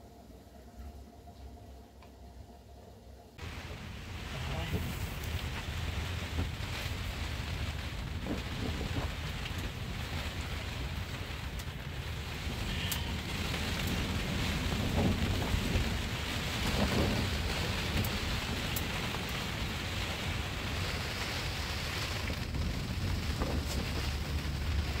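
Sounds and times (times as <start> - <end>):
low rumble: 0.0 - 25.0
heavy rain falling: 3.4 - 25.0.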